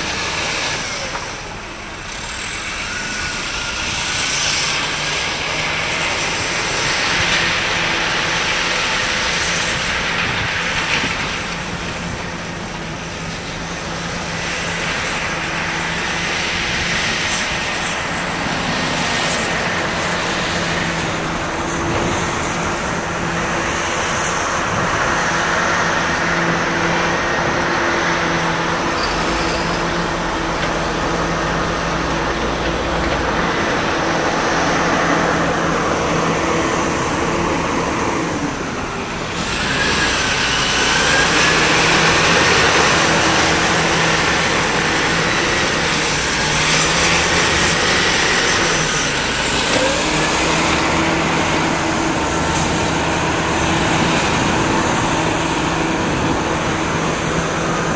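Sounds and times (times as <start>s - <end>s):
machine engine humming: 0.0s - 57.9s.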